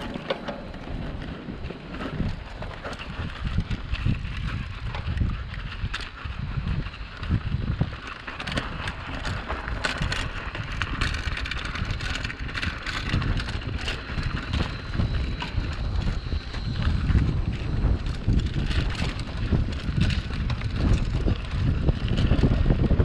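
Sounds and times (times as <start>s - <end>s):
bicycle rattling and clicking: 0.0s - 23.0s
wind rushing over microphone: 0.0s - 23.0s.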